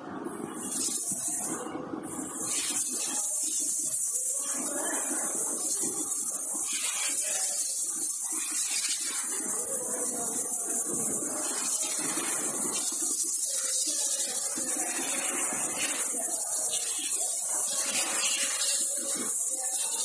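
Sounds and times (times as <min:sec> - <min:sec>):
faint muffled voices: 0:00.0 - 0:20.0
steady high hiss: 0:00.6 - 0:20.0.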